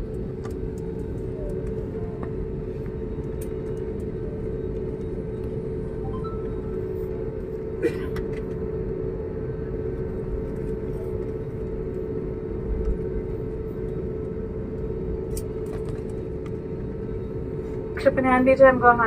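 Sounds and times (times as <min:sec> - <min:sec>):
constant hum: 0:00.0 - 0:19.0
jet engines rumbling in cabin: 0:00.0 - 0:19.0.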